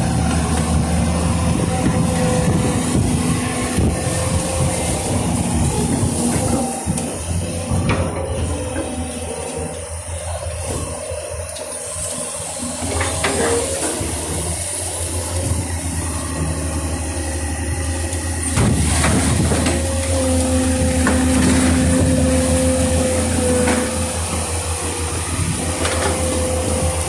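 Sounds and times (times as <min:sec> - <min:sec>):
excavator diesel engine droning: 0:00.0 - 0:27.0
steady whine: 0:00.0 - 0:27.0.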